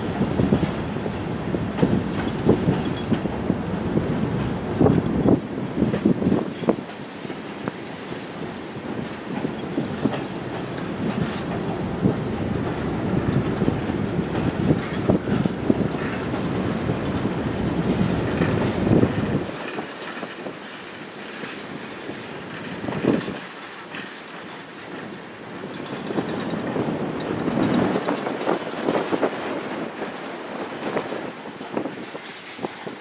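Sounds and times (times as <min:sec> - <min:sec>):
freight train cars rolling: 0:00.0 - 0:33.0
train wheels clacking on rail joints: 0:00.0 - 0:33.0.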